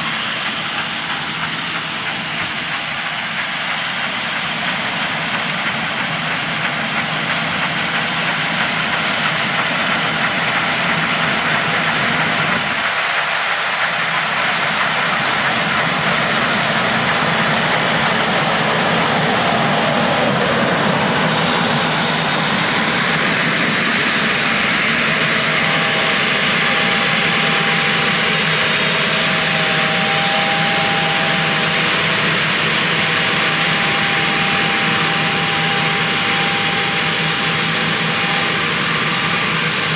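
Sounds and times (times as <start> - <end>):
combine harvester running: 0.0 - 39.9
machine whine: 0.0 - 39.9
loud rushing hiss: 7.6 - 39.9.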